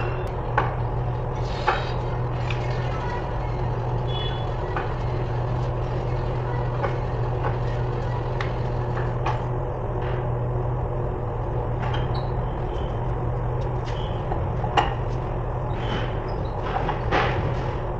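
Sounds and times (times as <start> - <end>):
low mechanical hum: 0.0 - 17.9.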